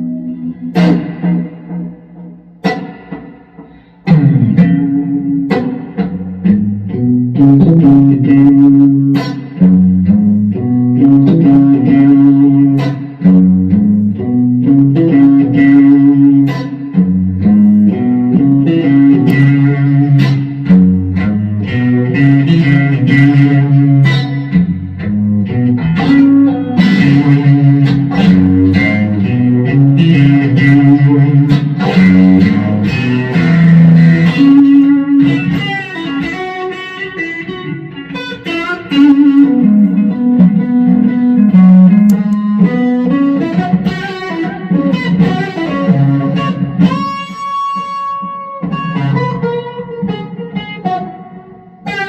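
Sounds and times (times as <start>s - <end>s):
loud electric guitar riff: 0.0s - 52.0s.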